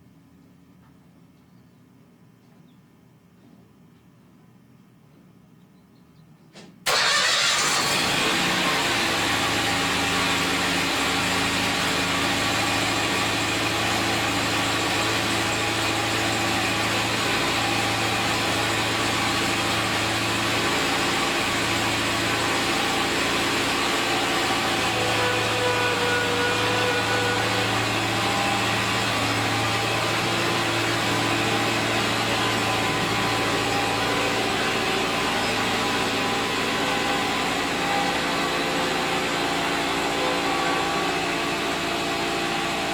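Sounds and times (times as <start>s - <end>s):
locomotive engine idling: 6.9s - 42.9s.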